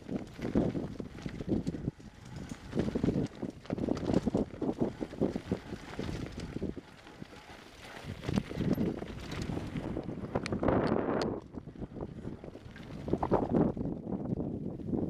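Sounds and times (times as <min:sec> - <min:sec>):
bike rattling: 0:00.0 - 0:15.0
wind rushing over microphone: 0:00.0 - 0:15.0.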